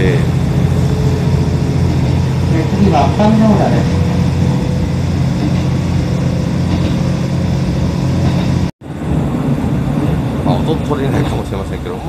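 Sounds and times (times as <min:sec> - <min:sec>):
diesel railcar engine running: 0:00.0 - 0:12.0.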